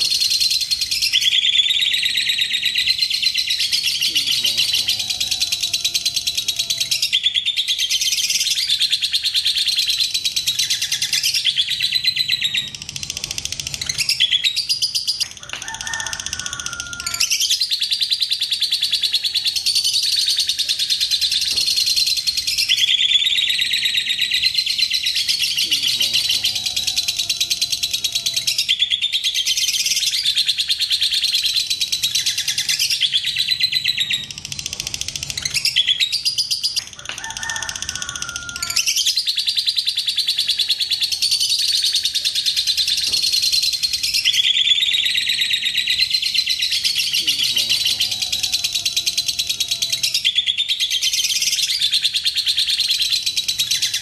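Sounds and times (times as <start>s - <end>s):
birds chattering trills: 0.0s - 54.0s.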